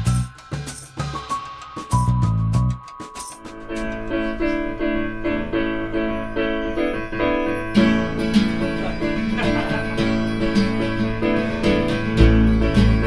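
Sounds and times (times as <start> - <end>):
acoustic guitar: 0.0 - 13.0
electric keyboard: 0.0 - 13.0.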